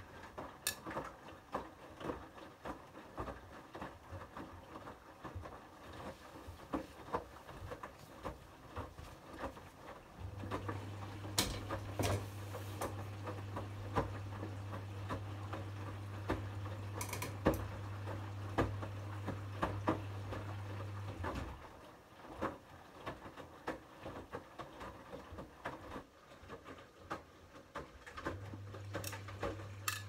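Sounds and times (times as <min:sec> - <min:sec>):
clothes tumbling in washing machine: 0:00.0 - 0:30.0
washing machine motor hum: 0:00.0 - 0:30.0.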